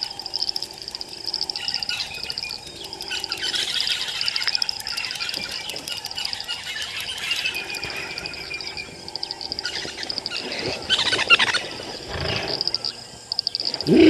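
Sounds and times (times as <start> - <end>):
pulsed high chirping: 0.0 - 14.0.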